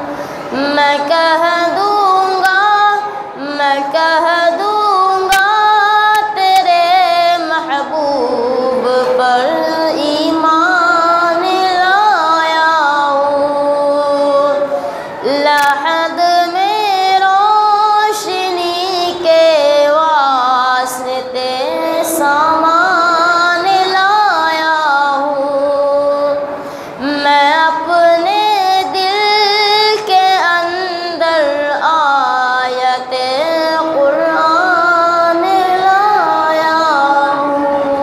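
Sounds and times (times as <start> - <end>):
woman singing devotional song: 0.0 - 38.0.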